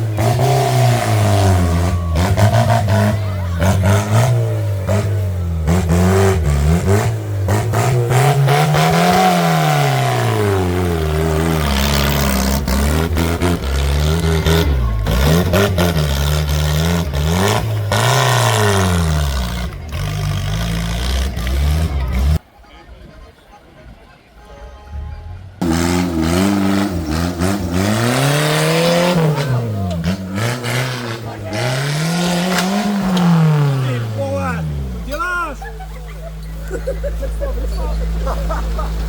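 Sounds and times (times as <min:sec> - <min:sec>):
tractor engine revving: 0:00.0 - 0:22.4, 0:24.6 - 0:39.0.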